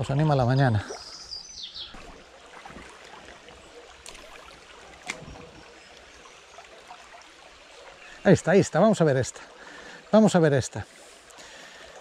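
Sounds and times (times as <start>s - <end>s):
stream water running over stones: 0.0s - 12.0s.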